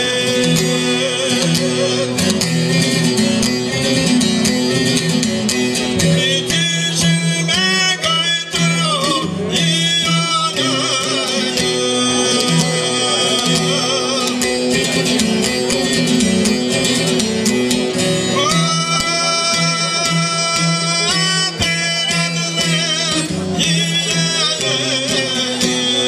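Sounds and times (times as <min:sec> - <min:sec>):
man singing: 0:00.0 - 0:26.0
plucked lute: 0:00.0 - 0:26.0.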